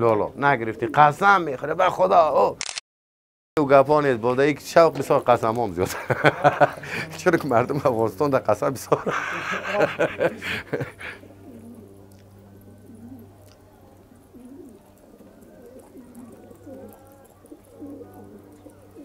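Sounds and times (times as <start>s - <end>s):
pigeons cooing: 0.1s - 2.4s, 4.4s - 19.0s.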